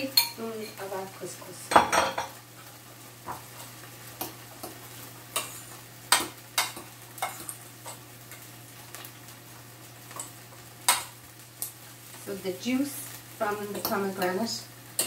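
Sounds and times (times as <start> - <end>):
faint frying sizzle: 0.0 - 15.0.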